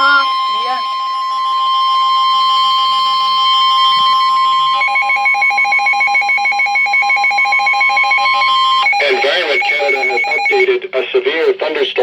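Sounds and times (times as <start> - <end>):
rapidly pulsing electronic beep: 0.0 - 11.1
steady warning alarm tone: 0.0 - 12.0.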